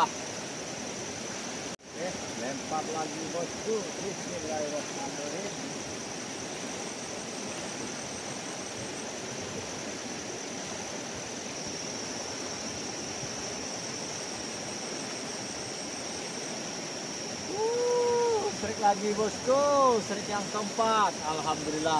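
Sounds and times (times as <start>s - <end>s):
river rushing: 0.0s - 21.9s.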